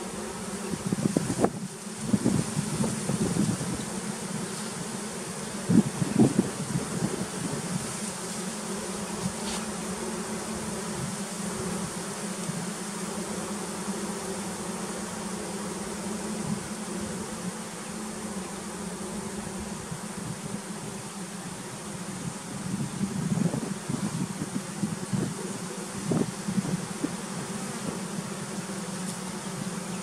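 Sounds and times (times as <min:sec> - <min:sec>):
honey bees buzzing: 0:00.0 - 0:30.0.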